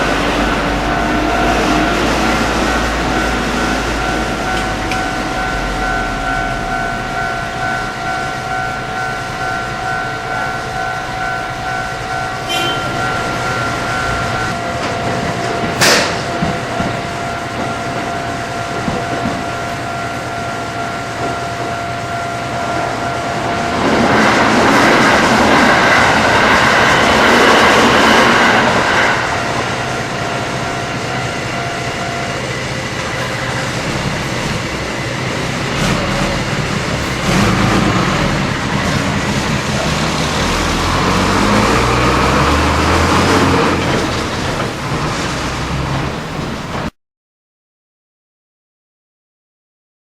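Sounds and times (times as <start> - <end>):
level crossing bell ringing: 0.0 - 44.8
train wheels clattering on rails: 0.0 - 46.9.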